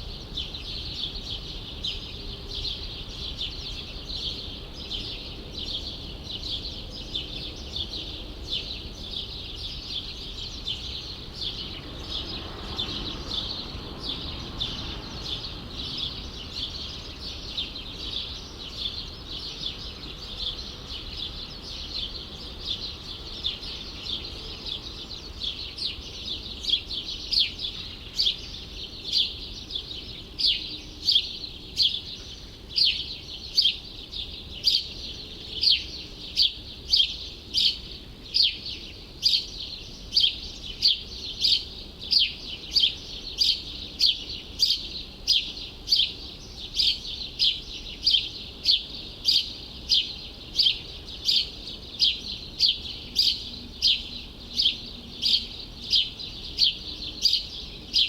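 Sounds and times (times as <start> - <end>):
low city background rumble: 0.0 - 58.0
small birds chirping: 0.0 - 58.0.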